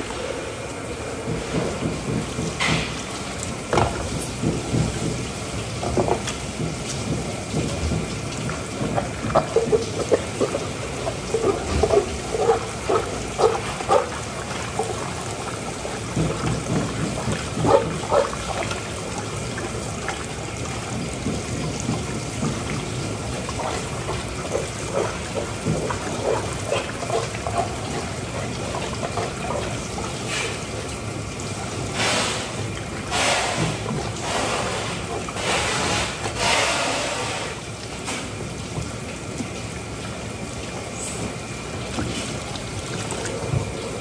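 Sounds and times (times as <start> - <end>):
gushes of spray: 0.0 - 44.0
water running and splashing: 0.0 - 44.0.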